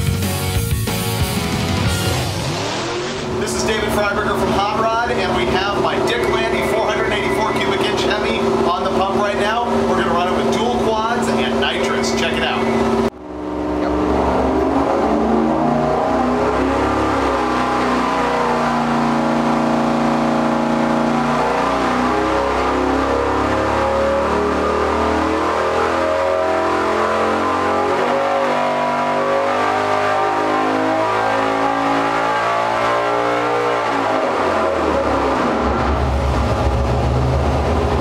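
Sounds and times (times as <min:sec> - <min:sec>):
engine running loud under load: 0:02.0 - 0:38.0.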